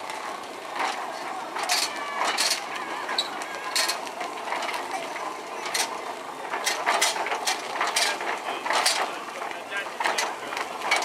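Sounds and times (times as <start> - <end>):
mechanical background noise: 0.0 - 11.0.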